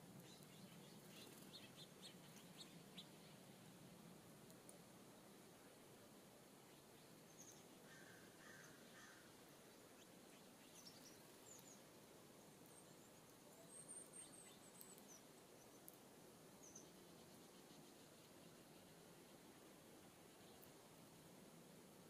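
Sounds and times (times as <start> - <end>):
low outdoor hiss: 0.0 - 22.0
songbirds chirping: 0.0 - 22.0.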